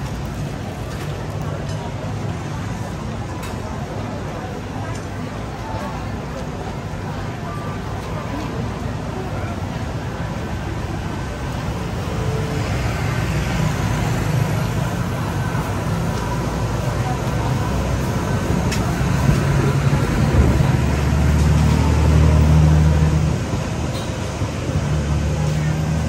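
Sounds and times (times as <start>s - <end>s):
crowd chatter: 0.0s - 26.0s
street traffic: 0.0s - 26.0s.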